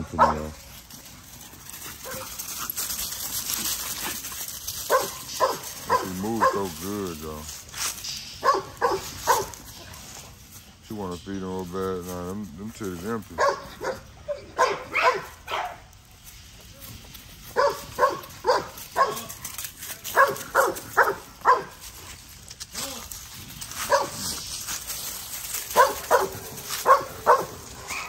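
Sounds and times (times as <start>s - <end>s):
dry leaves rustling underfoot: 0.0s - 28.0s.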